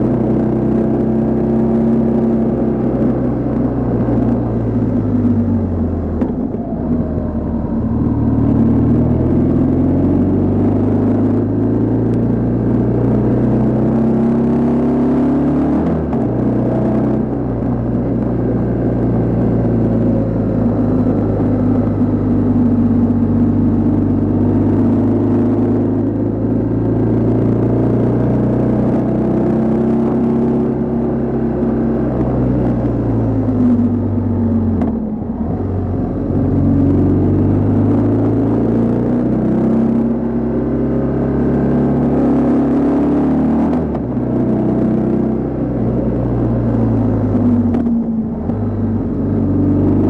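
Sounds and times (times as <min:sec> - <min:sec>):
motorcycle engine: 0:00.0 - 0:50.0.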